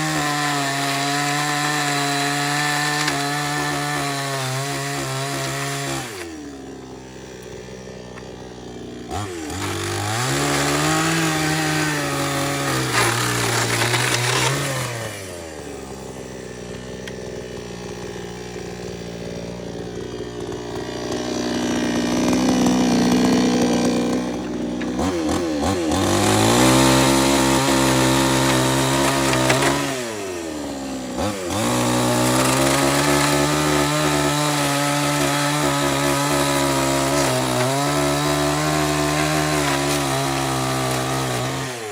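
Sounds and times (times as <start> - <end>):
small engine revving: 0.0 - 41.9.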